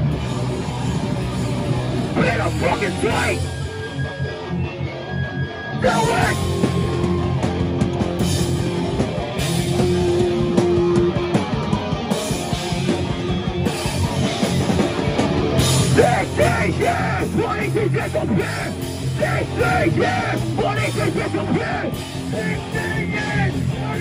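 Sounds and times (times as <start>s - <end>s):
hardcore punk band playing live: 0.0s - 24.0s.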